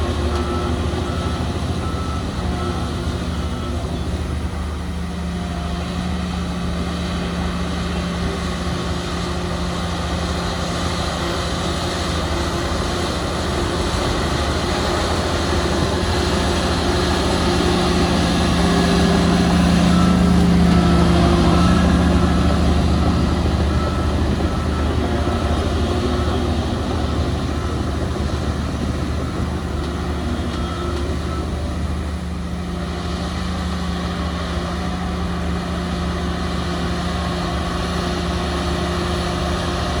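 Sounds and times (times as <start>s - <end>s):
heavy machinery diesel engines: 0.0s - 40.0s.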